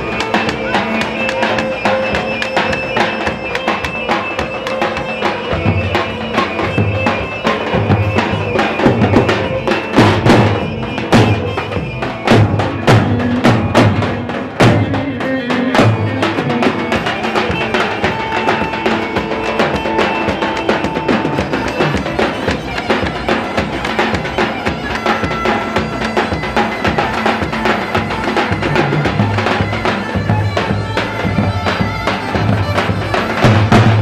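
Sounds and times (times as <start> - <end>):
heavy drum strokes: 0.0 - 34.0
reedy wind melody: 0.0 - 34.0.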